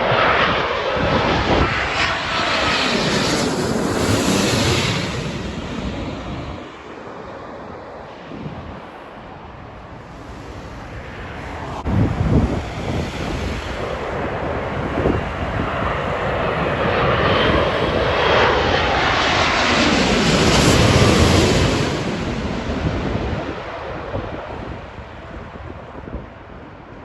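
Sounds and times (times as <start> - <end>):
jet engines roaring: 0.0 - 27.0
wind gusts on microphone: 0.0 - 27.0.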